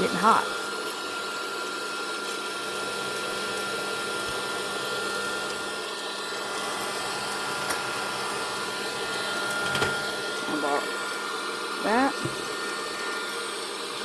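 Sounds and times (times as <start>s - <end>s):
popcorn popper whirring: 0.0s - 14.0s.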